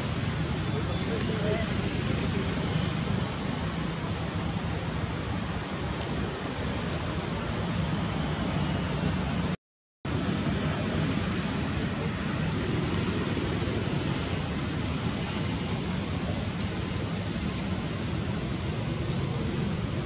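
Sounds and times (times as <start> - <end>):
rushing outdoor background noise: 0.0 - 20.0.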